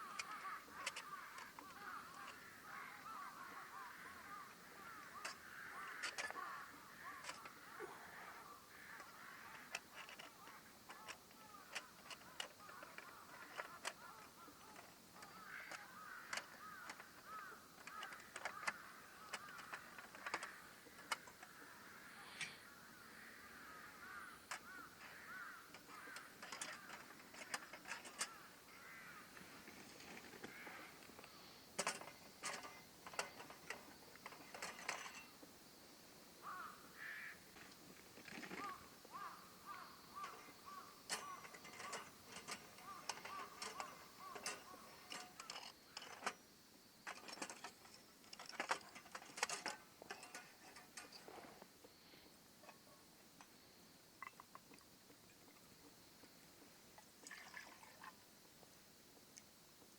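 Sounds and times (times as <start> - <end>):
faint crows cawing: 0.0 - 35.4, 36.4 - 46.4, 47.1 - 53.1.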